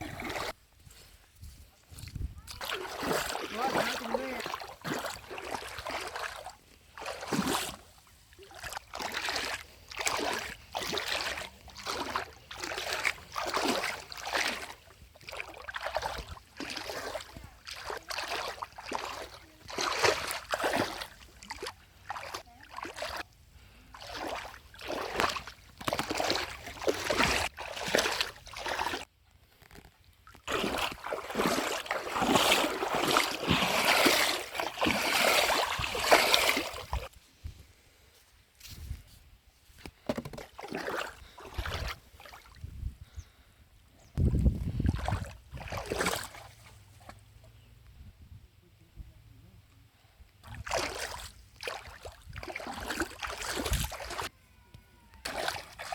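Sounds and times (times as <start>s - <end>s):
water splashing and sloshing: 0.0s - 37.6s, 39.8s - 43.0s, 44.2s - 47.6s, 50.4s - 54.3s, 55.1s - 55.9s.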